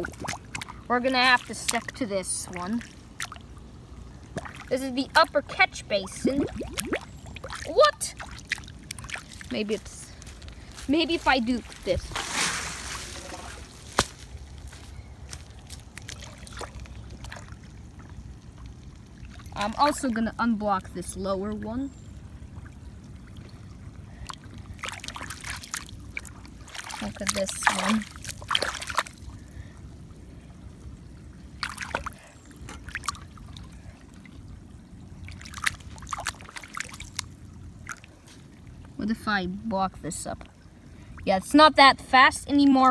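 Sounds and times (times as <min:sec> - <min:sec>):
water trickling into drain: 0:00.0 - 0:41.6
water splashes: 0:00.0 - 0:41.9
low steady rumble: 0:00.0 - 0:42.9.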